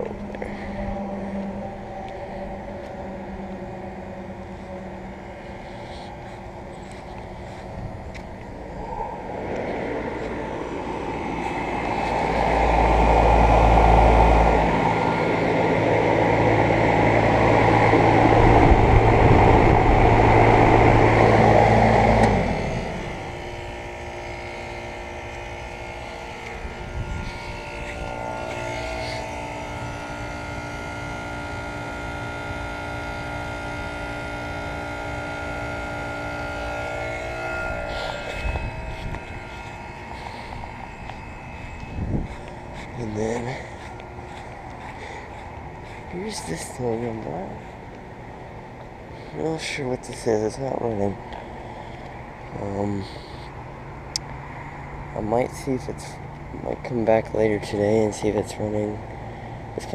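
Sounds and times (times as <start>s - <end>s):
air conditioner fan noise: 0.0s - 59.9s
steady hum with tones: 0.0s - 59.9s.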